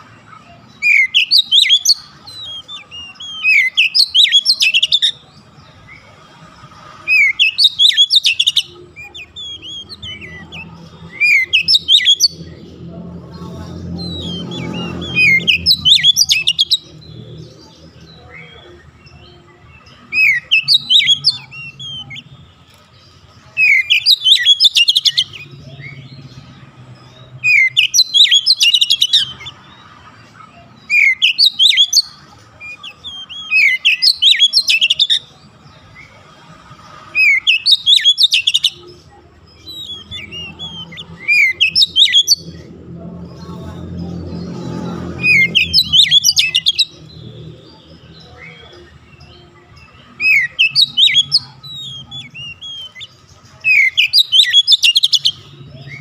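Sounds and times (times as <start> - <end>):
bird singing high chattering notes: 0.0 - 56.0.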